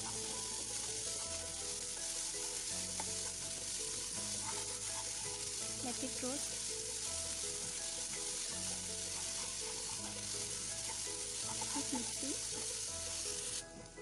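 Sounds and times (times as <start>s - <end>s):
spatula stirring in pan: 0.0s - 13.6s
food sizzling in hot oil: 0.0s - 14.0s.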